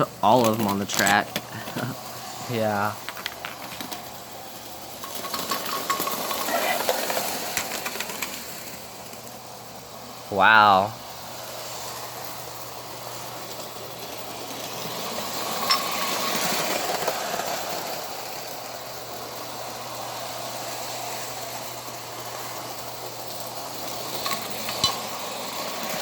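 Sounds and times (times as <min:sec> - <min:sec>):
toy train motor whirring: 0:00.0 - 0:26.0.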